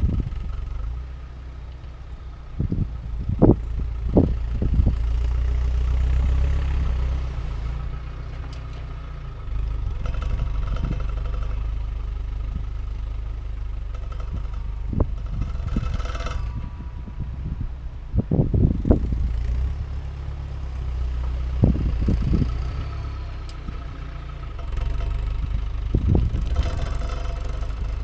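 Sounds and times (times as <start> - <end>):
car engine running at low speed: 0.0 - 28.0.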